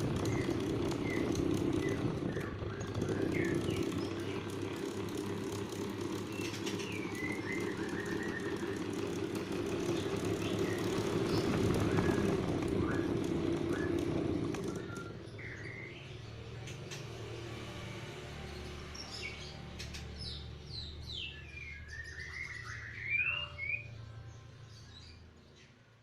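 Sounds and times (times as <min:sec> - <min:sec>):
birds chirping: 0:00.0 - 0:17.4, 0:18.6 - 0:26.0
electric fan fluttering hum: 0:00.0 - 0:25.4.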